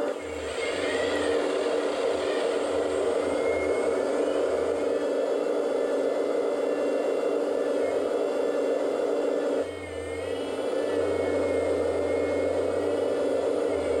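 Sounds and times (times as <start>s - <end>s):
faint rising and falling whistles: 0.0s - 14.0s
hydraulic pump whine: 0.0s - 14.0s.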